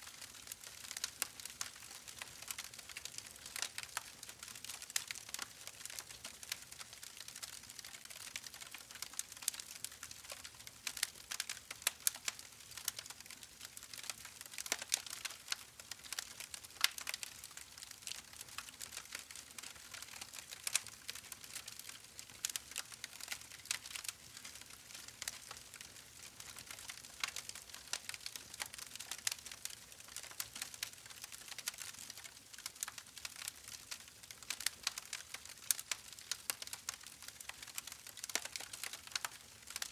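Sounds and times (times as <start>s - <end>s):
fire crackling and popping: 0.1s - 39.9s.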